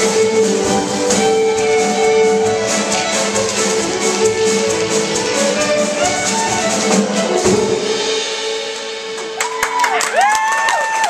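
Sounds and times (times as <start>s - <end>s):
audience applause and cheering: 0.0s - 8.1s, 9.0s - 11.0s
orchestra with solo fiddle: 0.0s - 9.8s.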